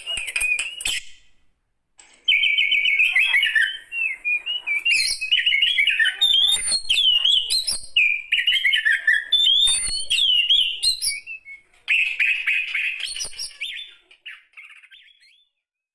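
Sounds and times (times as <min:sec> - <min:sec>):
bird singing: 0:02.3 - 0:15.7.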